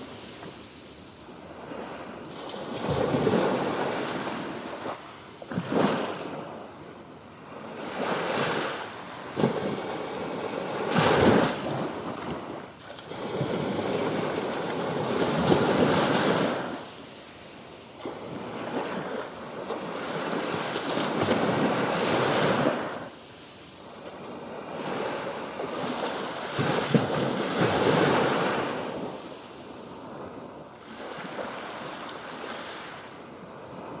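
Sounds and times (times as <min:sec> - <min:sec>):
sea waves breaking on shore: 0:00.0 - 0:34.0.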